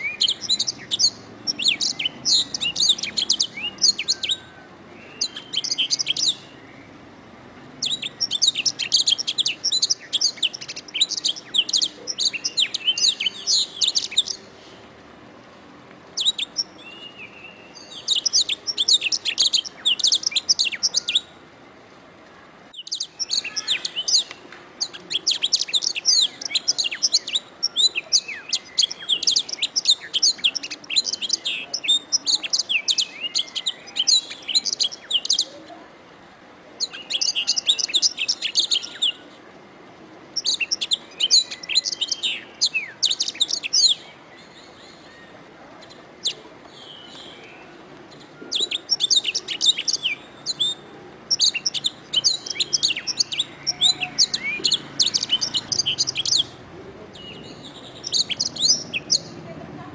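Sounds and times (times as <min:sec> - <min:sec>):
canary trilling song: 0:00.0 - 0:07.1, 0:07.7 - 0:14.5, 0:16.2 - 0:21.4, 0:22.7 - 0:35.5, 0:36.8 - 0:39.3, 0:40.3 - 0:45.1, 0:45.8 - 0:59.4.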